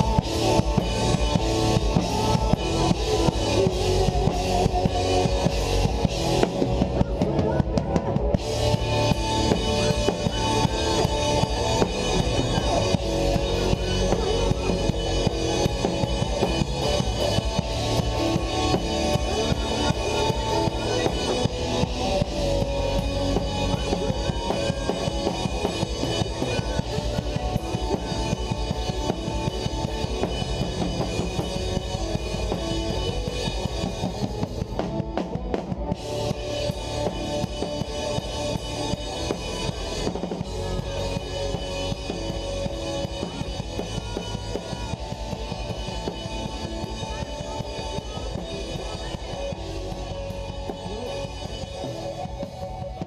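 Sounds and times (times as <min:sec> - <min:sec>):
drum kit beat: 0:00.0 - 0:53.0
live band music: 0:00.0 - 0:53.0.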